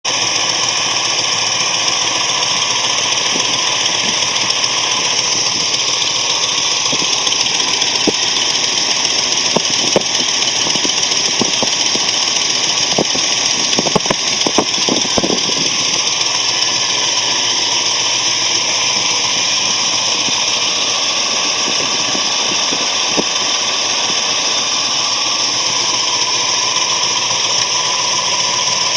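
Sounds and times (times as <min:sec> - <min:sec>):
engine knocking: 0:00.0 - 0:28.9
engine running: 0:00.0 - 0:28.9.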